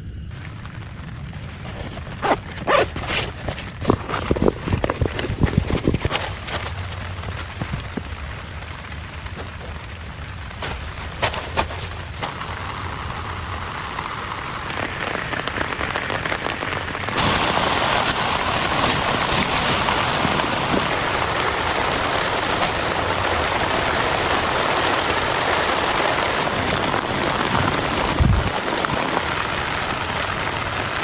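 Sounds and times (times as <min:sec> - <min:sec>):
heavy rain pouring: 0:00.3 - 0:31.0.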